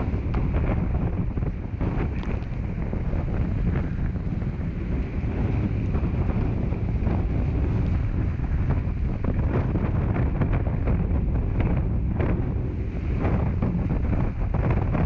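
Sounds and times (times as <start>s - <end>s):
water rushing past hulls: 0.0s - 15.0s
wind buffeting microphone: 0.0s - 15.0s.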